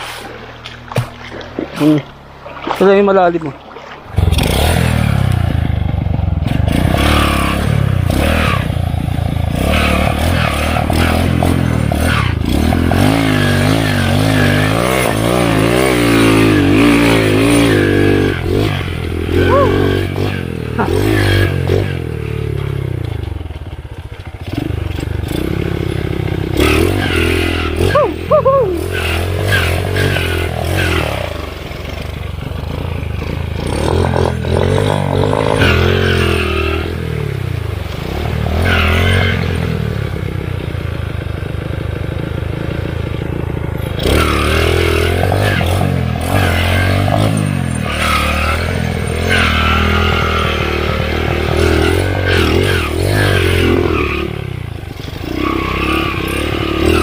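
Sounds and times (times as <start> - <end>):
motorcycle engine revving: 4.1 - 57.0.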